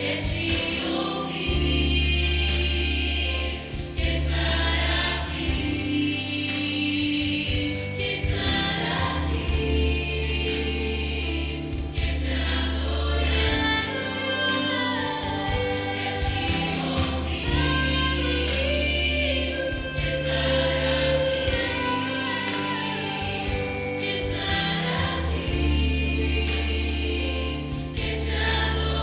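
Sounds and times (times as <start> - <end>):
choir singing slowly: 0.0 - 29.0
held bass accompaniment: 0.0 - 29.0.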